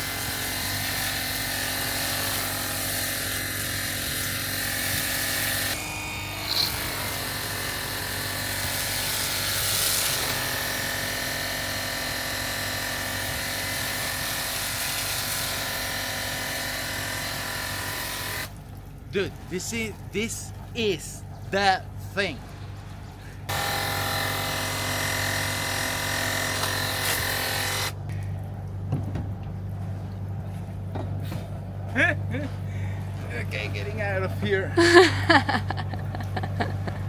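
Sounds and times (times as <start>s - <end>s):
electric pump motor humming: 0.0s - 37.0s.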